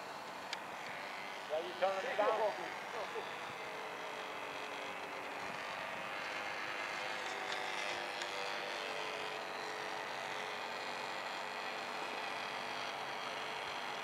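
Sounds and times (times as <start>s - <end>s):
model airplane motor running: 0.0s - 14.0s.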